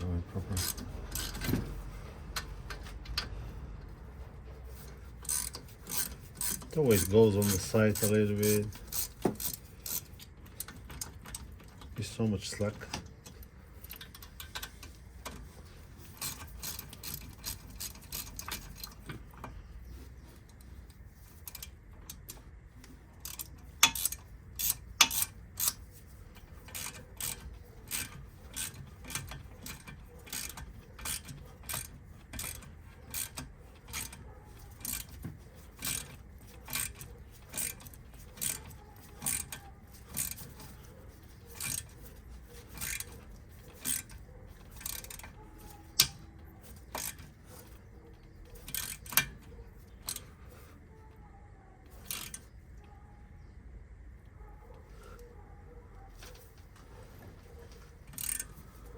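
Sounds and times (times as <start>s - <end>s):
ratchet wrench clicking: 0.6s - 3.4s, 4.7s - 12.0s, 12.8s - 50.6s, 51.9s - 52.5s, 58.1s - 58.9s.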